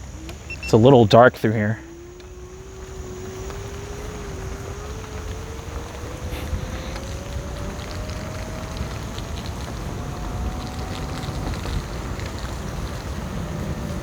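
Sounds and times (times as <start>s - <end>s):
electric motor whine: 0.0s - 14.0s
small ticks: 0.1s - 14.0s
tyre rumble: 1.7s - 14.0s
wind rush on microphone: 1.8s - 14.0s.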